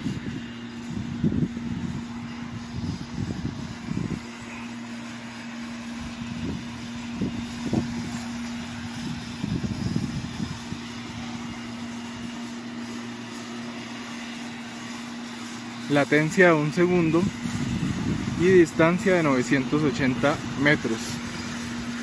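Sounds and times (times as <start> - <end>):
steady low street hum: 0.0 - 22.0.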